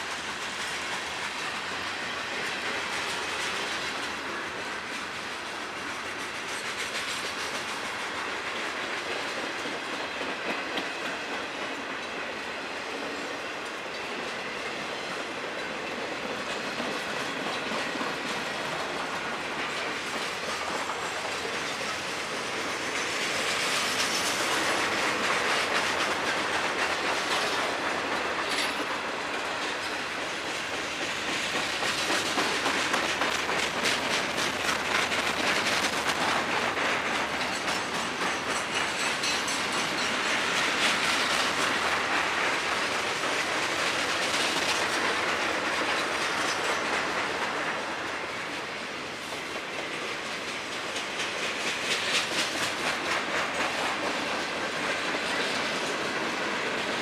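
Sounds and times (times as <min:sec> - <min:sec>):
freight train rattling past: 0:00.0 - 0:57.0
wheels clicking over rail joints: 0:00.0 - 0:57.0.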